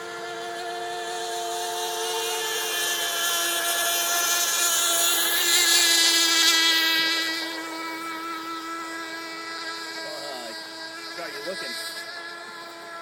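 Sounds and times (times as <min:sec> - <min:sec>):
model racing boat motor whine: 0:00.0 - 0:13.0.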